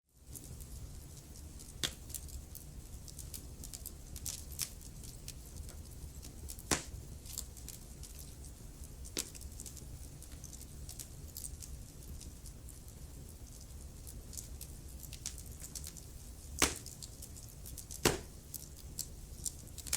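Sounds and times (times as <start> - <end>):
low fire rumble: 0.2 - 19.9
wood fire crackling and popping: 0.2 - 19.9.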